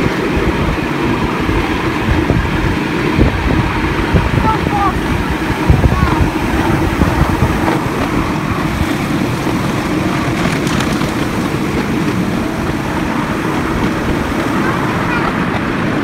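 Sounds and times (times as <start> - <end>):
miniature train rumbling on track: 0.0 - 16.0
wind buffeting microphone: 0.0 - 16.0.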